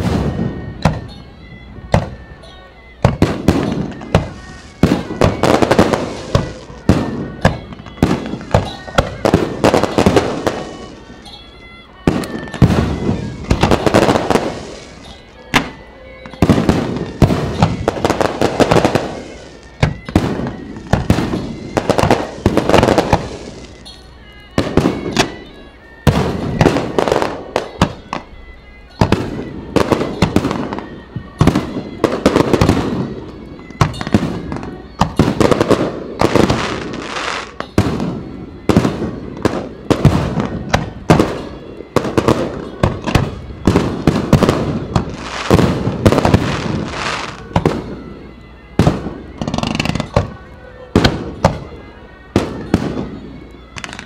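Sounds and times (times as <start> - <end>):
fireworks booming and crackling: 0.0 - 2.4, 3.0 - 11.4, 12.0 - 28.3, 28.9 - 54.0.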